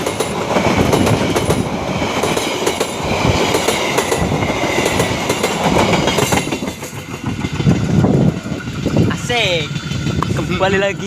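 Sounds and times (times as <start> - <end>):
train wheels clattering over rail joints: 0.0 - 10.8.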